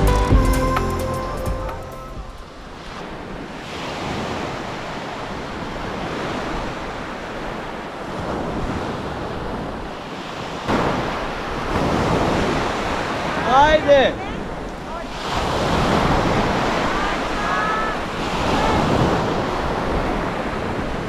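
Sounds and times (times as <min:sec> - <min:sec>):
wind buffeting microphone: 0:02.1 - 0:21.0
small waves breaking on shore: 0:02.4 - 0:21.0.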